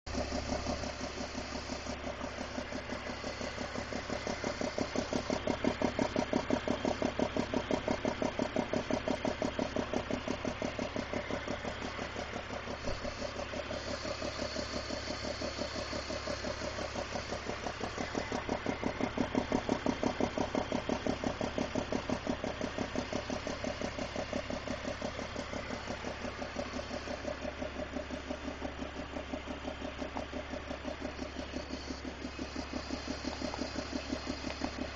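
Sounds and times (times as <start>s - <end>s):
car engine idling with ticking: 0.1s - 34.9s.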